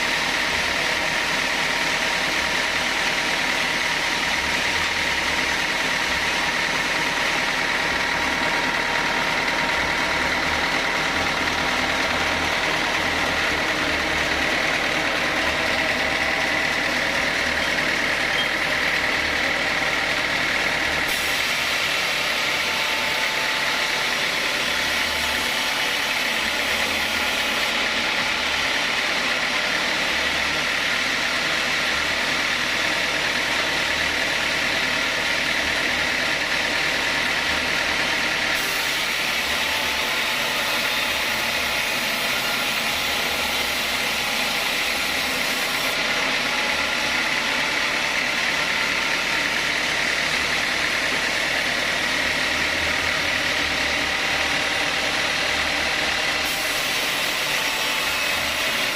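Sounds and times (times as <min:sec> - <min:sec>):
sawmill saw running: 0:00.0 - 0:58.9.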